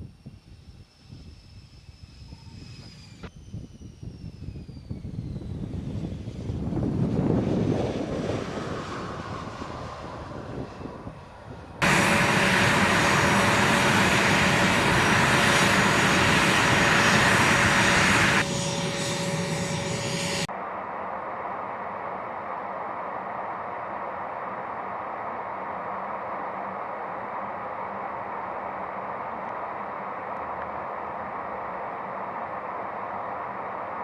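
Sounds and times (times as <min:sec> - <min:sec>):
jet aircraft passing rumble: 0:00.0 - 0:34.0
loud steady jet engine noise: 0:00.0 - 0:34.0.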